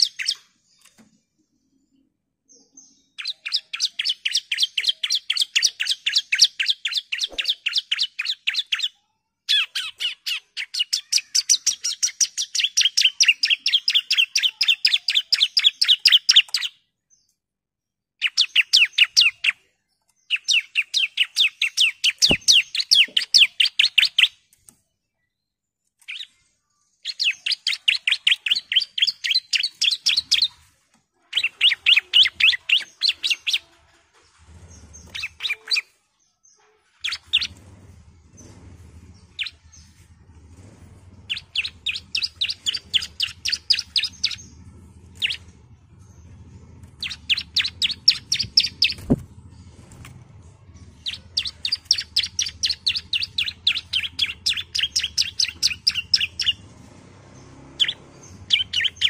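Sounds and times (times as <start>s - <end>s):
bird rapid chirping song: 0.0s - 1.0s, 1.8s - 16.8s, 18.2s - 19.6s, 20.2s - 24.5s, 26.0s - 59.0s.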